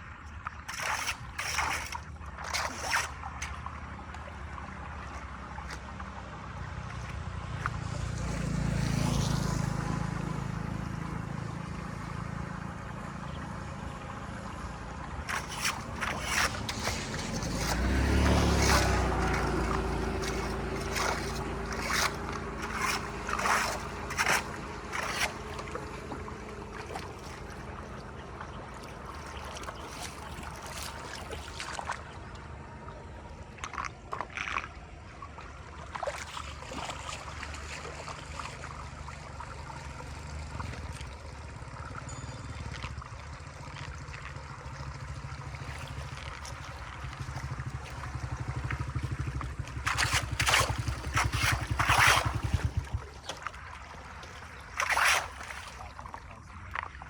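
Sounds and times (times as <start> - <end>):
knocks and splashes: 0.0 - 57.0
water draining and gurgling: 0.4 - 6.8, 15.2 - 32.5, 33.4 - 57.0.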